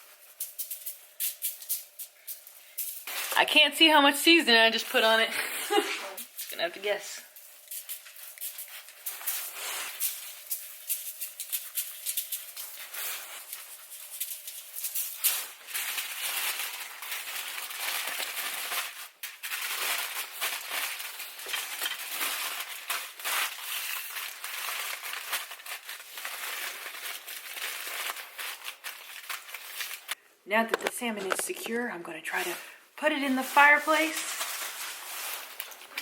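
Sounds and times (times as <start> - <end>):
aluminum foil crinkling: 0.0 - 36.0.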